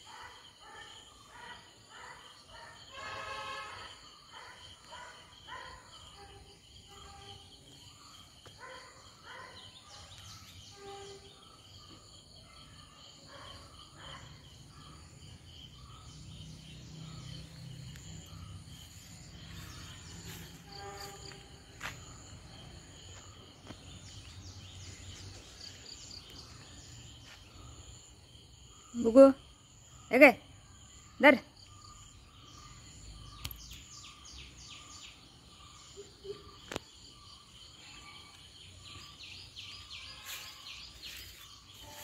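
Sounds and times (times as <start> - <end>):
insect drone: 0.0 - 42.0.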